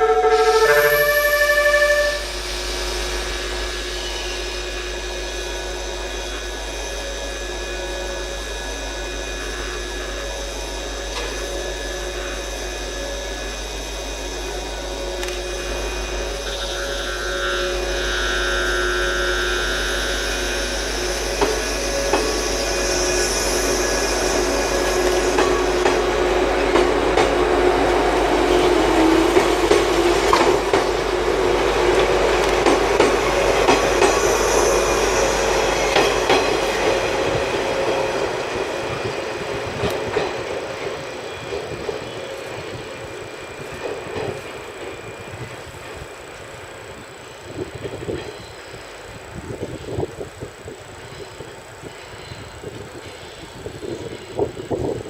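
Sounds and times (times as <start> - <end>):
electric train equipment hum: 0.0 - 55.0
train motor tone rising: 0.0 - 55.0.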